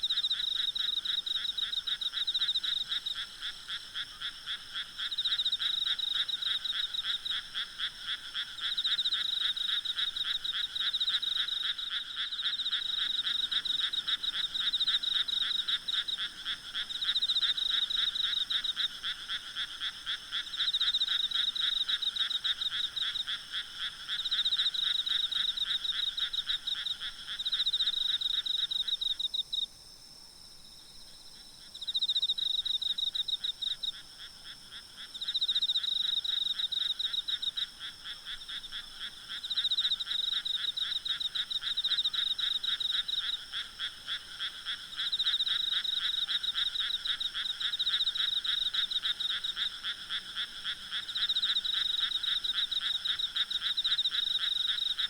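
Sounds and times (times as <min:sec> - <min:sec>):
frogs croaking: 0:00.0 - 0:29.7, 0:30.4 - 0:55.0.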